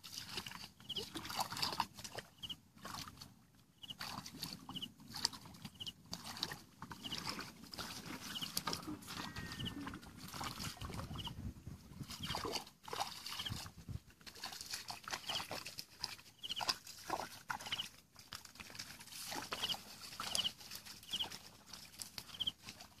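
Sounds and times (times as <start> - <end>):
footsteps splashing through water: 0.0 - 11.4, 12.0 - 23.0
rustling of plants: 3.8 - 23.0.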